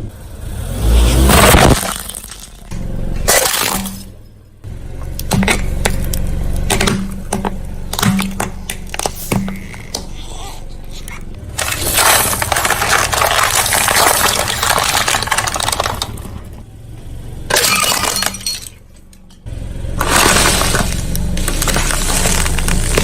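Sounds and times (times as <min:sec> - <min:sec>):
car tyre crushing brittle objects: 0:00.8 - 0:23.0.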